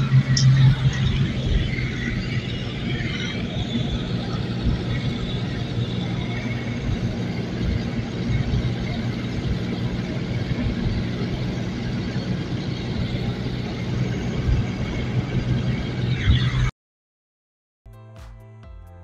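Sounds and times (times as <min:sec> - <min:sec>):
tractor diesel engine running: 0:00.0 - 0:16.2.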